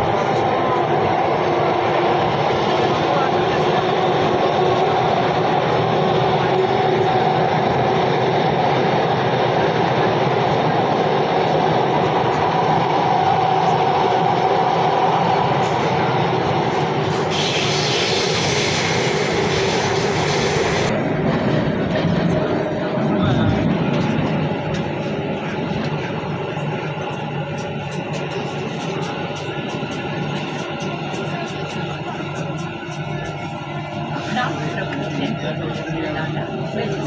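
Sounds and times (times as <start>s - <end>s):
train rumble and hum: 0.0s - 37.0s.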